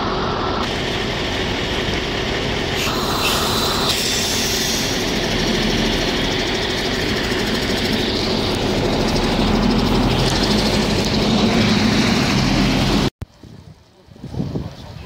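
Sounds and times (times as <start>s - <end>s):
bus engine idling: 0.0s - 13.1s.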